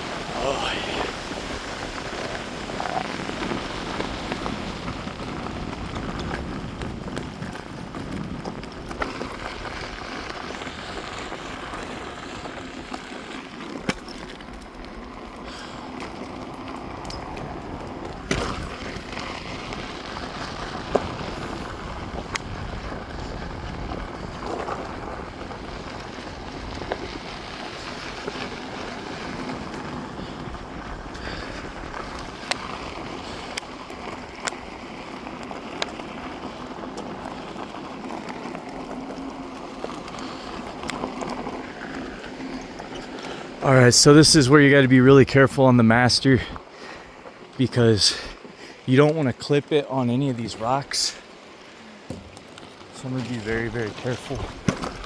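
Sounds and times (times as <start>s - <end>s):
tyre rumbling on gravel: 0.0s - 55.0s.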